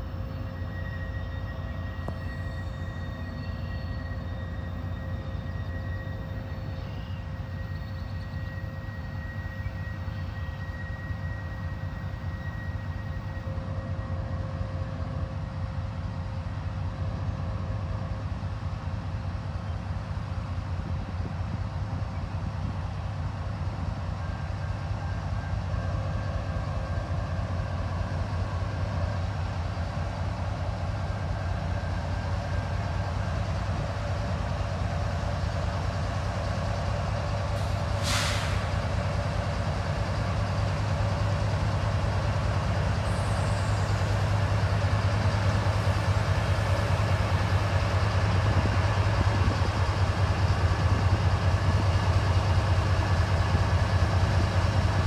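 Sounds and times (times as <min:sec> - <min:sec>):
diesel locomotive engine rumble: 0:00.0 - 0:55.0
train wheel and rail noise: 0:00.0 - 0:55.0.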